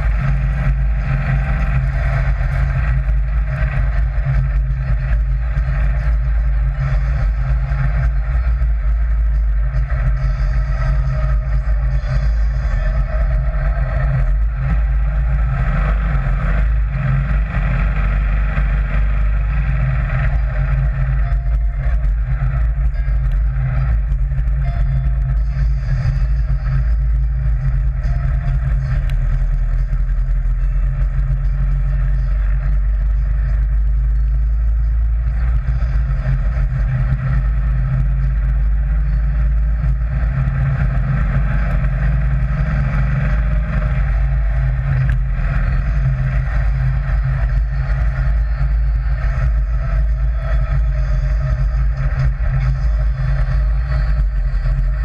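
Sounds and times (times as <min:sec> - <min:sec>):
dune buggy engine rumbling: 0:00.0 - 0:55.0.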